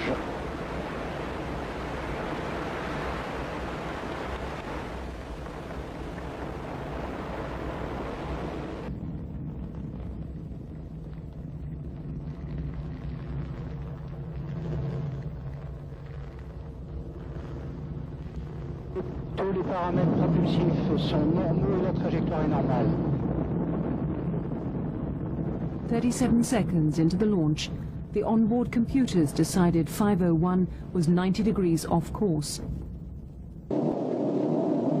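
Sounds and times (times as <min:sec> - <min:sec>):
rocket engine roaring: 0:00.0 - 0:27.2, 0:33.7 - 0:35.0.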